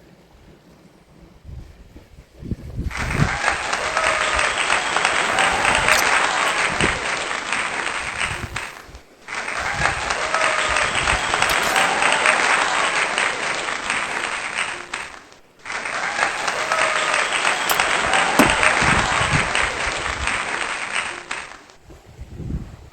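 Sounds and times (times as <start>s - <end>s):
applause: 2.9s - 21.7s.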